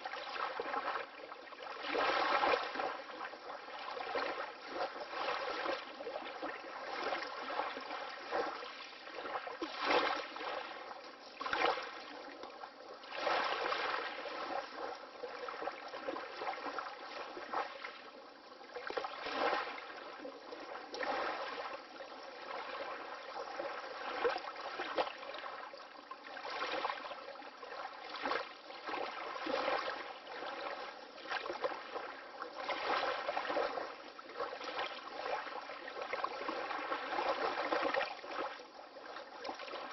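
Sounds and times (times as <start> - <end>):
water lapping: 0.0 - 39.9.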